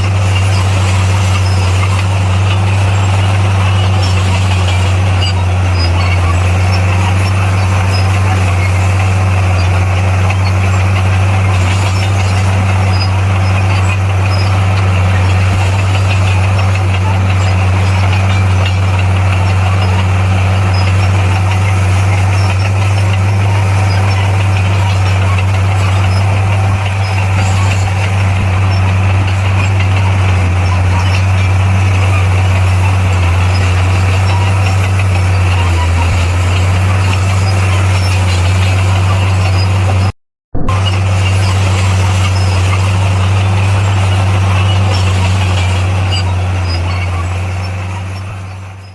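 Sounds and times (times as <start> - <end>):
diesel engine humming steadily: 0.0 - 48.9.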